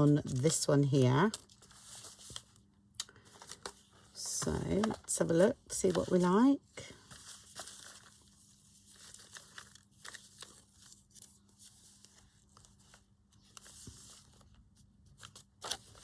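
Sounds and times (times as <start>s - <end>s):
paper and card crinkling: 0.0s - 16.0s.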